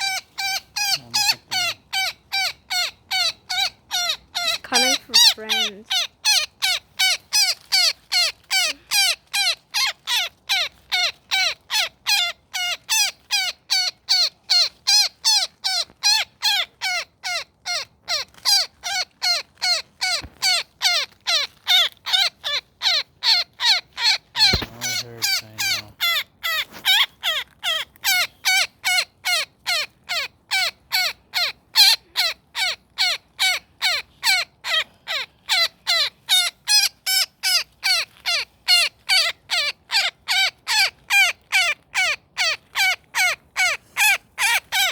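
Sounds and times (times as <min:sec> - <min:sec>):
woodpecker harsh distress calls: 0:00.0 - 0:44.9.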